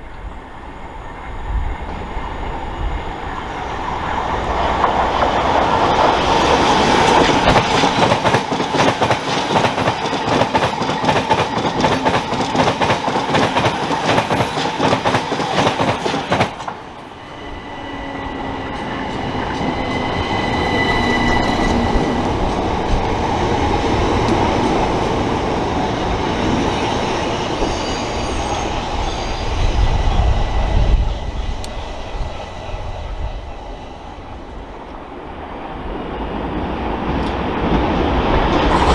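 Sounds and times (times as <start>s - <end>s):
train high whine: 0.0s - 38.9s
train low rumble: 0.0s - 38.9s.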